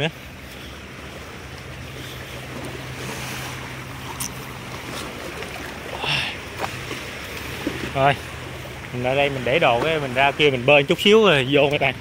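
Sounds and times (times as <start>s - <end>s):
seawater lapping around boulders: 0.0s - 12.0s.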